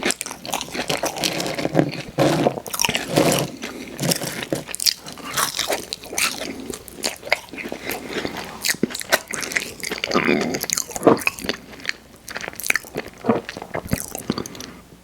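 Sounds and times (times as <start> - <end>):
person chewing and crunching food: 0.0 - 14.8.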